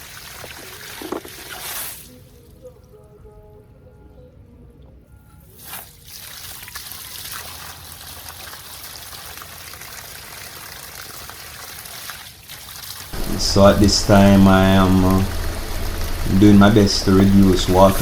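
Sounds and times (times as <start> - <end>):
water pouring from broken pipe: 0.0 - 2.1, 5.6 - 18.0.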